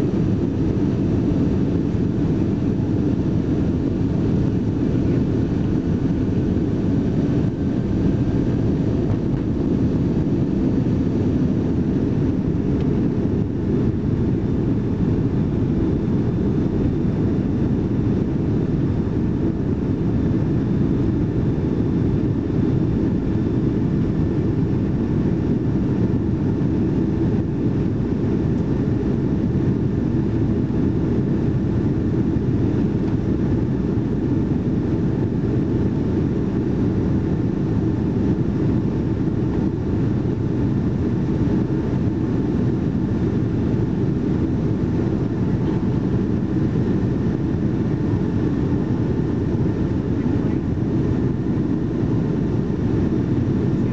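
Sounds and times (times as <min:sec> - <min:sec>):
faint steady whine: 0:00.0 - 0:53.9
jet engines rumbling: 0:00.0 - 0:53.9.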